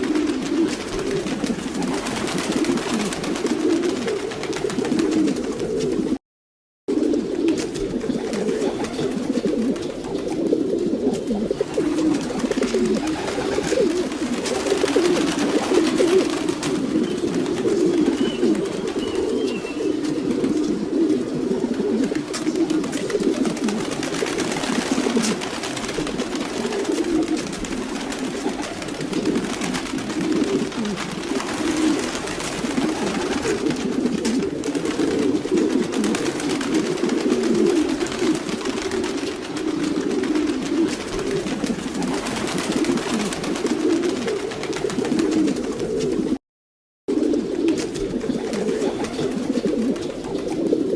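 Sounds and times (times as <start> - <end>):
pigeons cooing: 0.0 - 6.2, 6.9 - 46.4, 47.1 - 50.9.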